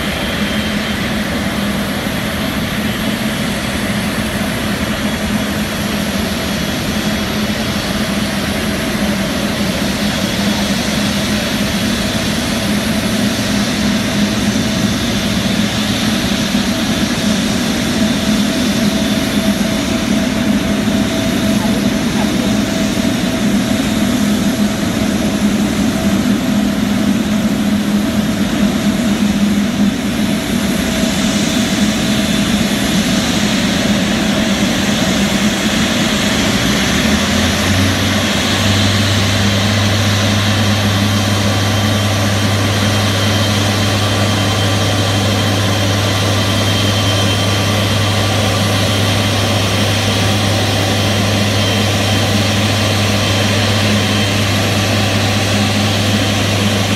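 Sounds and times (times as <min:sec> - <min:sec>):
jet engines whining: 0:00.0 - 0:56.9.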